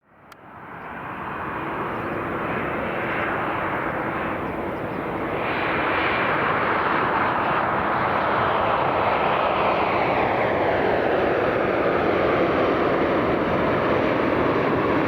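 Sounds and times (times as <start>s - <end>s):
airliner jet engines landing: 0.1s - 15.0s.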